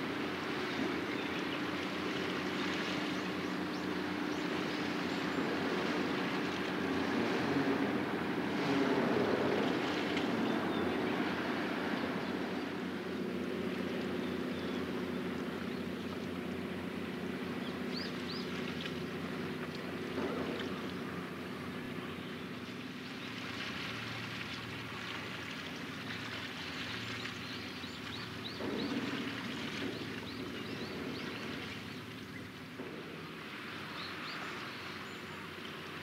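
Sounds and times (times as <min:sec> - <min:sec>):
low engine hum: 0:00.0 - 0:36.0
wind and water rushing: 0:00.0 - 0:36.0.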